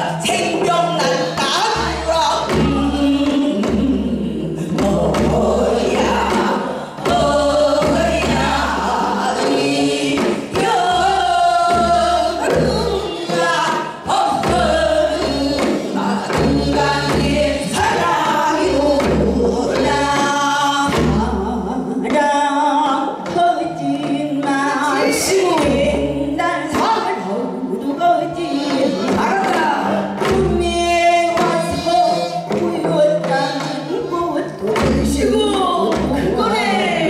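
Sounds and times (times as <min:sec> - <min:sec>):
women singing: 0:00.0 - 0:37.0.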